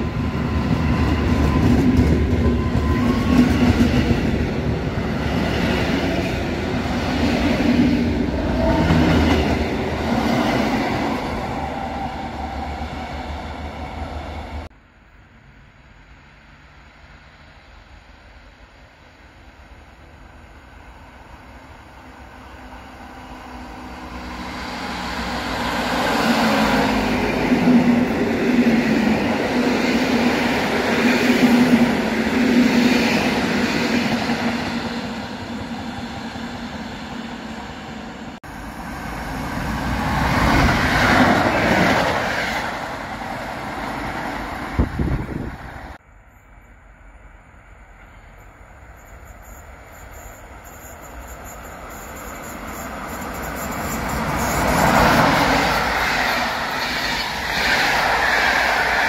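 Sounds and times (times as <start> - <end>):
train rushing past: 0.0 - 14.7, 15.4 - 46.0, 47.9 - 59.0.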